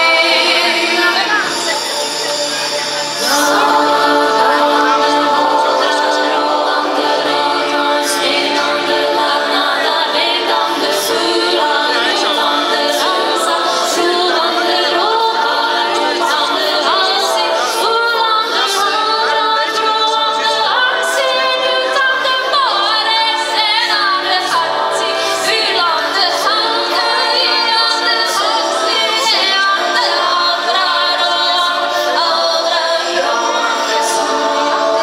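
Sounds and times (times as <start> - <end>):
voices singing together: 0.0 - 35.0
woman singing through microphone: 0.0 - 35.0.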